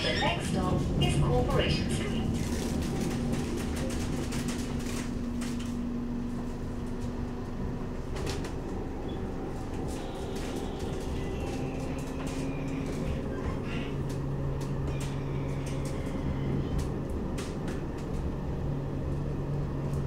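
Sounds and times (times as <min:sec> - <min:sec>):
tram rumble and motor hum: 0:00.0 - 0:20.0.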